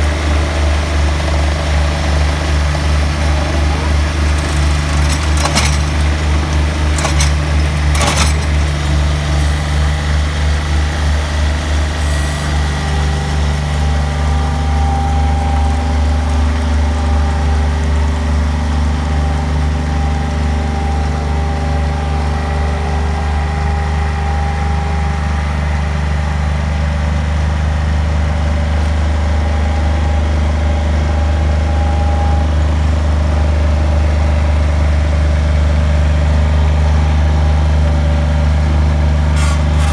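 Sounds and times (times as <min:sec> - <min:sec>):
skid-steer engine droning: 0:00.0 - 0:39.9.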